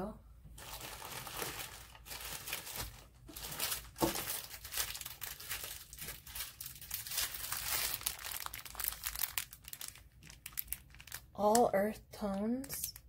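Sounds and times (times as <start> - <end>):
plastic packaging crinkling: 0.6 - 13.0.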